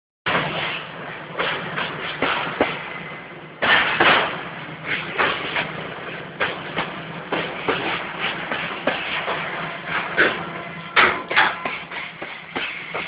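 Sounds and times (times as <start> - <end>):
freight train wagons knocking: 0.3 - 13.0
train rushing noise: 0.3 - 13.0.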